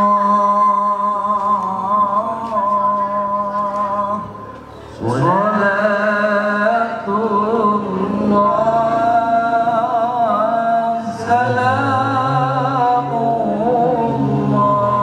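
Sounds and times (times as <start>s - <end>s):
man reciting melodically into microphone: 0.0s - 15.0s.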